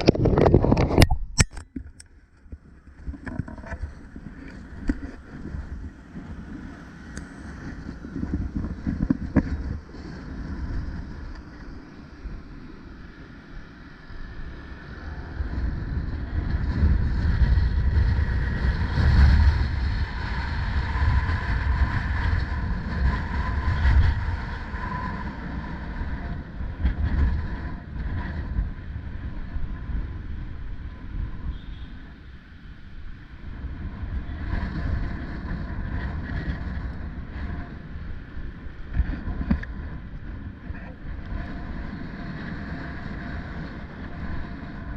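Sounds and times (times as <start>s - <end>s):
faint steady whine: 0.0s - 44.9s
wind buffeting microphone: 0.0s - 44.9s.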